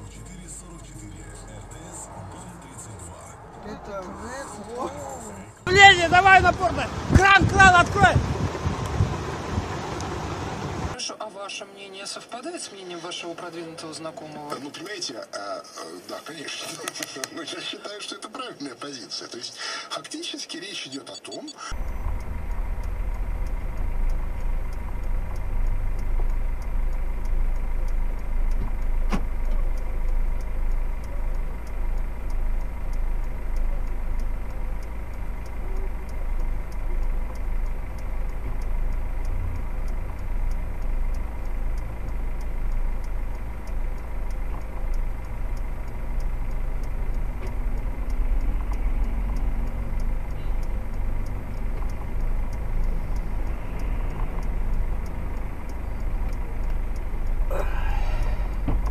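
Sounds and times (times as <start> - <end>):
vehicle engine idling: 0.0 - 11.0, 21.7 - 58.9.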